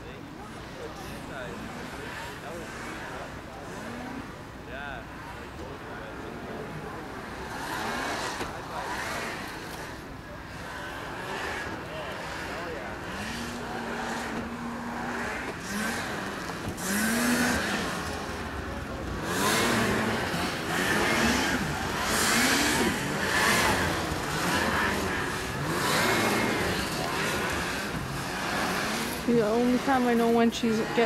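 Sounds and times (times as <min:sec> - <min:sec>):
snowmobile engines revving: 0:00.0 - 0:31.0.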